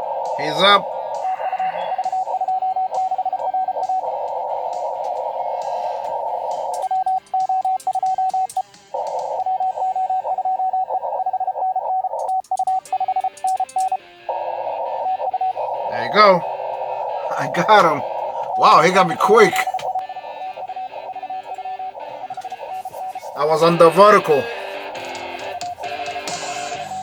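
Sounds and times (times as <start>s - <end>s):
morse code tone: 0.0s - 27.0s
radio receiver hiss: 0.0s - 27.0s.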